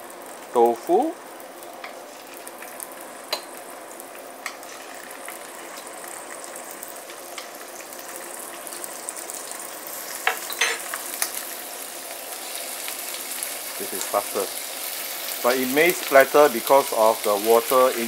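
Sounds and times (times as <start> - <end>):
tofu sizzling in hot oil: 0.0 - 18.0.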